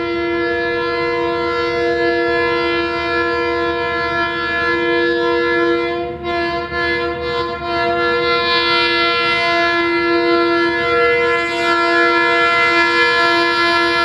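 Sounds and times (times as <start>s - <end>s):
locomotive air horn: 0.0s - 14.0s.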